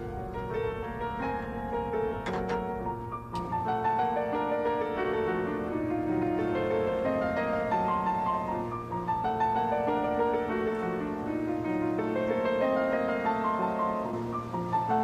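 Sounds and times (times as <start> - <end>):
piano notes and chords: 0.0 - 15.0.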